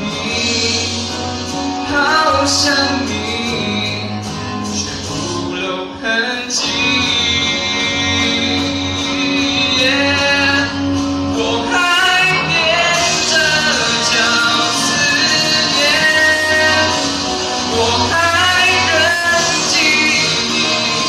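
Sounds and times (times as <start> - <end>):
pop ballad singing: 0.0 - 21.0.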